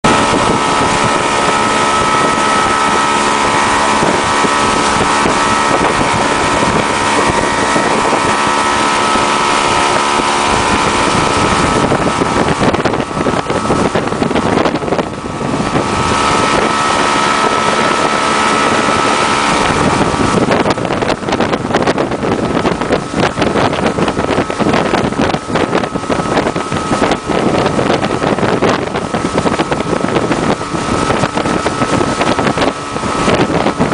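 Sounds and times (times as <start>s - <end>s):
motorboat engine running: 0.0s - 33.9s
rush of boat wake: 0.0s - 33.9s
wind buffeting microphone: 0.0s - 33.9s.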